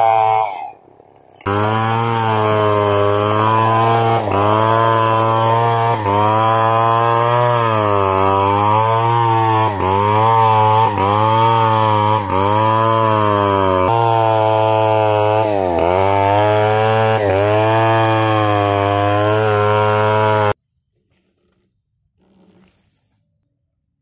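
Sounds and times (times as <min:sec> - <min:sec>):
chainsaw cutting log: 0:00.0 - 0:22.9.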